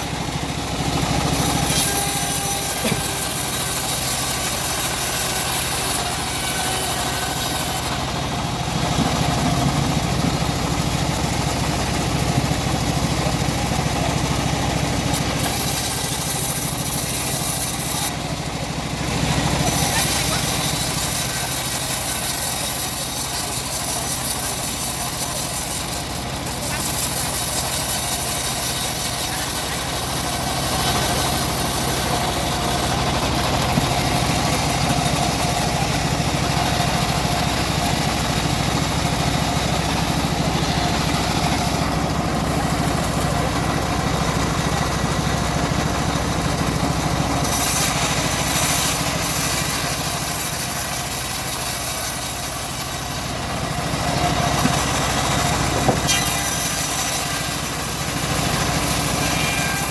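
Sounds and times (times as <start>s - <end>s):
bandsaw mill sawing log: 0.0s - 59.9s.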